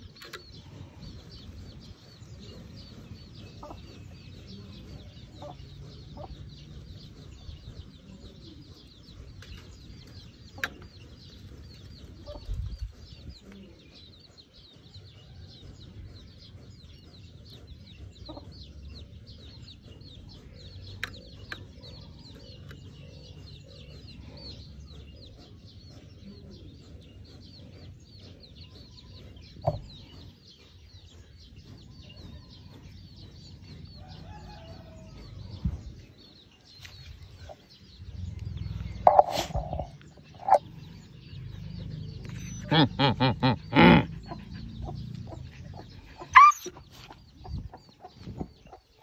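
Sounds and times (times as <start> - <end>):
bird chirps: 0.0 - 49.0.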